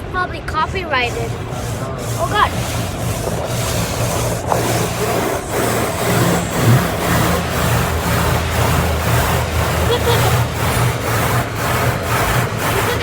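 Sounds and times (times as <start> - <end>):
car wash machinery noise: 0.0 - 13.0
low hum: 0.6 - 13.0.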